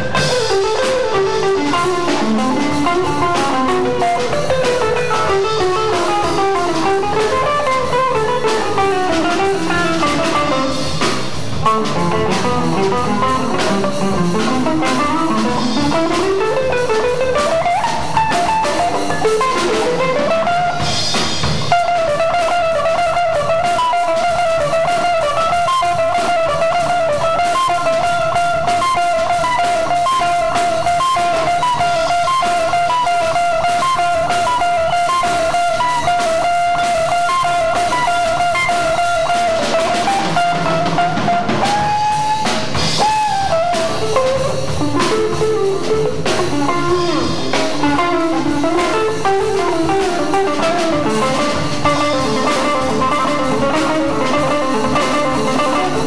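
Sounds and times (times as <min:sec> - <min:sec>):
bass: 0:00.0 - 0:56.0
drum kit: 0:00.0 - 0:56.0.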